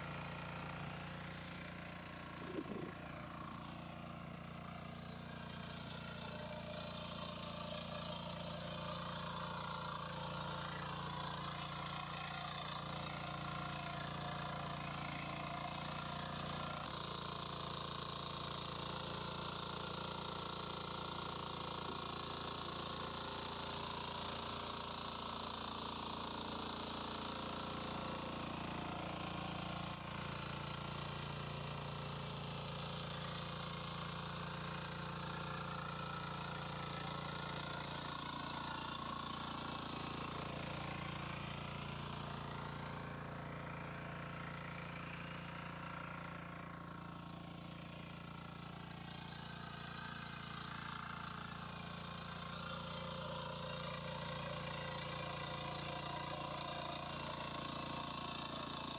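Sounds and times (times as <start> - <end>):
power weeder engine running: 0.0 - 58.9.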